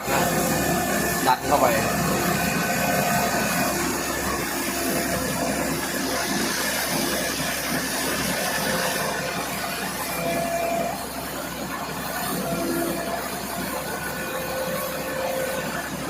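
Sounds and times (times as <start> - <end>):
threshing machine whirring: 0.0 - 16.0.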